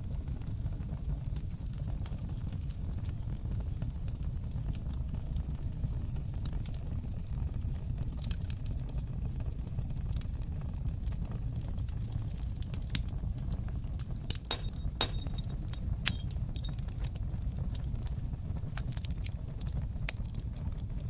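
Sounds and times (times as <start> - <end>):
fire pops: 0.0 - 21.0
wood fire crackling: 0.0 - 21.0.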